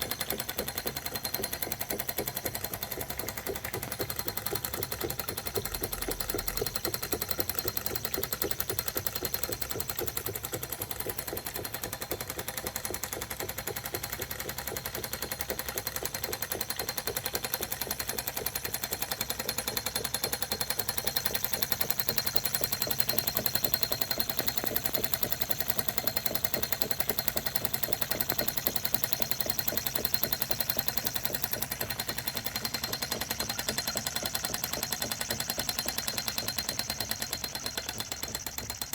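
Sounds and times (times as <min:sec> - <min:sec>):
toy steam engine chuffing: 0:00.0 - 0:38.9.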